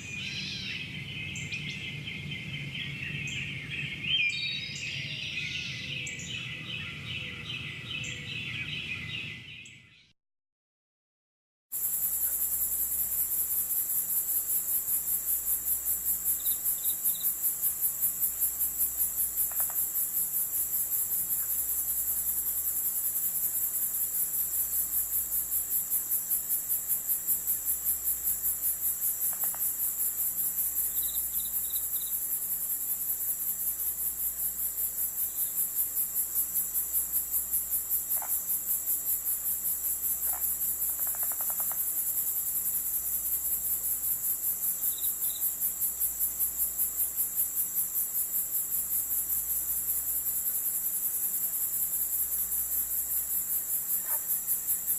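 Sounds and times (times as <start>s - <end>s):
crickets chirping chorus: 0.0s - 9.6s, 11.7s - 54.9s.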